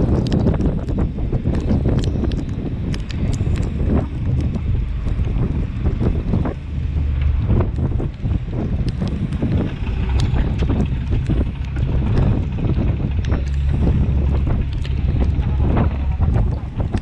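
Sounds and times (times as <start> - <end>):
boat engine drone: 0.0 - 17.0
rain and spray ticking: 0.0 - 17.0
wind buffeting microphone: 0.0 - 17.0.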